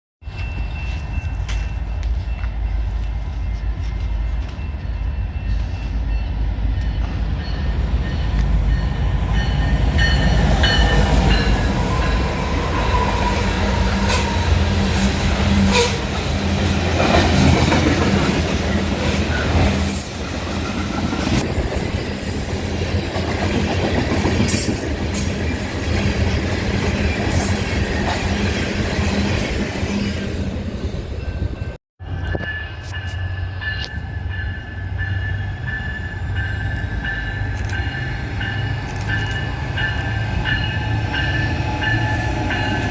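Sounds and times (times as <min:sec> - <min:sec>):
train rumbling past: 0:00.2 - 0:42.9.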